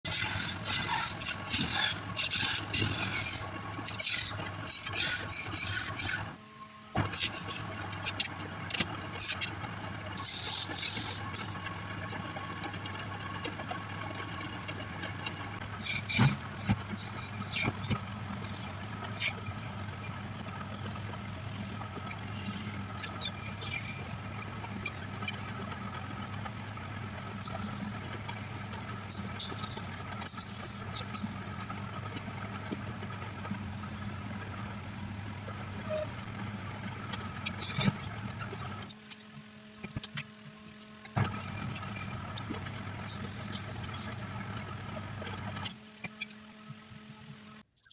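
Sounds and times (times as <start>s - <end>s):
gouge scraping spinning wood: 0.1s - 6.4s, 7.0s - 39.0s, 41.2s - 47.5s
wood lathe motor hum: 0.1s - 47.6s.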